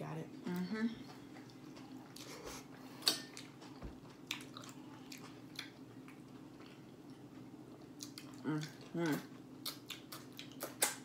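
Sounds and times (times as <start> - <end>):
chewing and wet mouth sounds: 0.4 - 11.0.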